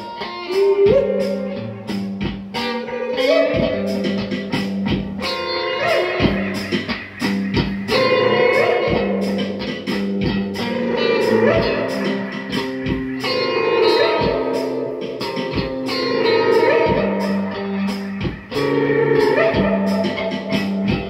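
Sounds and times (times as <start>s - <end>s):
bending lead guitar melody: 0.0s - 21.0s
electric guitar over beat: 0.0s - 21.0s.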